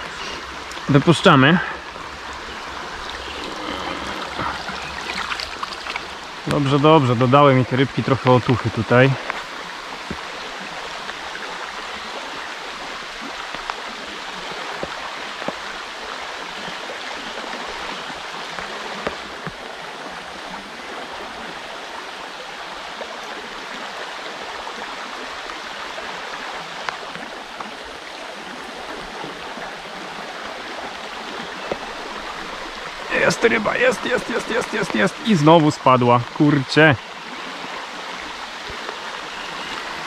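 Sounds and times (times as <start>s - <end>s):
river current rushing: 0.0s - 40.0s.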